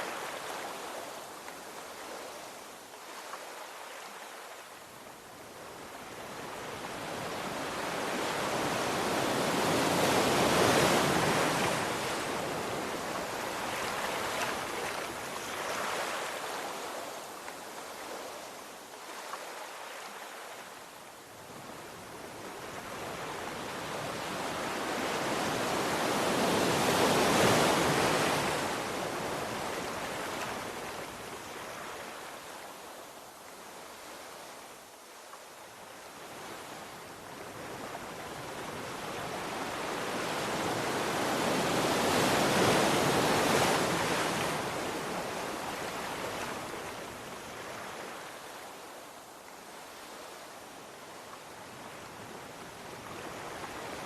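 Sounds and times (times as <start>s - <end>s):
sea waves breaking on shore: 0.0s - 35.3s, 35.9s - 54.0s.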